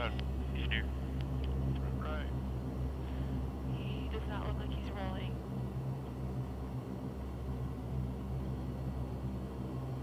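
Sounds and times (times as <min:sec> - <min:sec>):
turboprop engines droning: 0:00.0 - 0:10.0.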